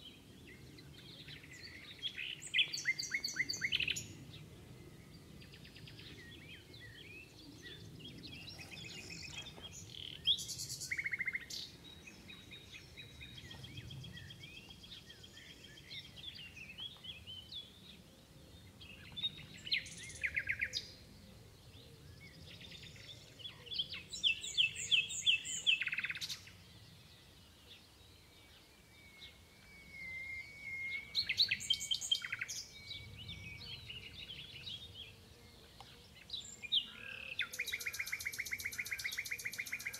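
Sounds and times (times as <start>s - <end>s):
nightingale singing: 0.0s - 4.3s, 4.9s - 18.0s, 21.8s - 39.9s.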